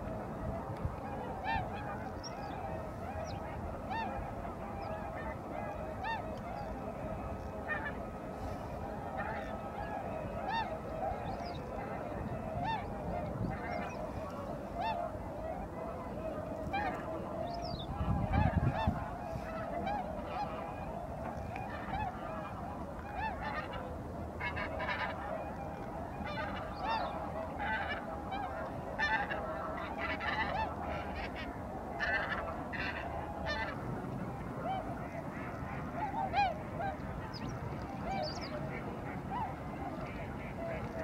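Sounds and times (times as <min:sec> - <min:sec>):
waterfowl honking: 0:00.0 - 0:41.0.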